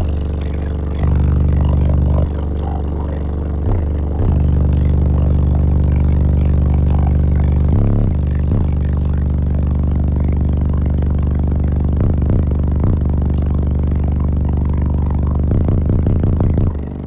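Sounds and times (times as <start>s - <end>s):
subwoofer playing deep bass note: 0.0s - 17.0s.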